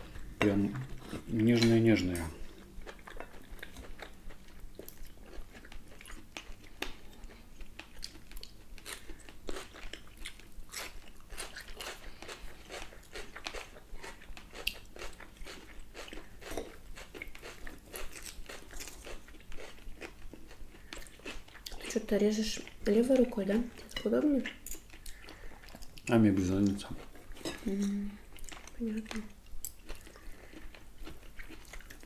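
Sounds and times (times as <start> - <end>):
chewing with wet mouth smacks: 0.1 - 21.9, 23.8 - 27.6, 28.3 - 32.0.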